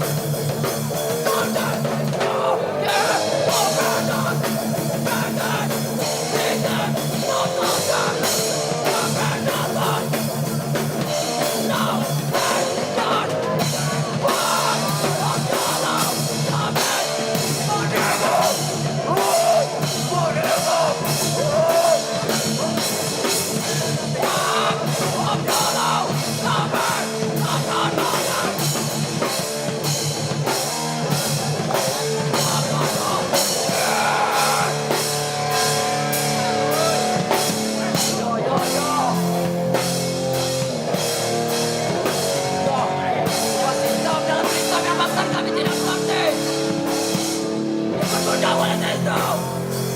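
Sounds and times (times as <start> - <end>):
bass guitar: 0.0 - 49.9
distorted electric guitars: 0.0 - 49.9
drum kit beat: 0.0 - 49.9
person singing: 0.9 - 29.0, 31.6 - 39.8, 42.0 - 47.2, 47.9 - 49.8.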